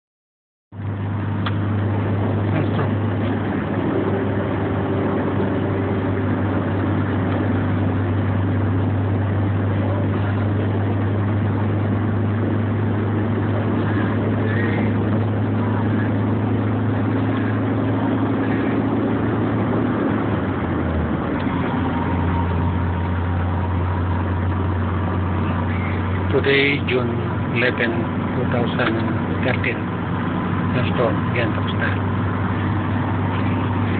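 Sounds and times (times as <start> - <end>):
car engine drone: 0.7 - 33.9
road and wind noise: 0.7 - 33.9.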